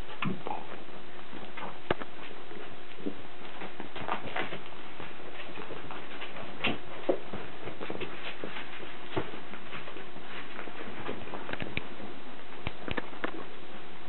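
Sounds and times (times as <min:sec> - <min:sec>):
puppy paws clicking and tapping: 0:00.0 - 0:13.7.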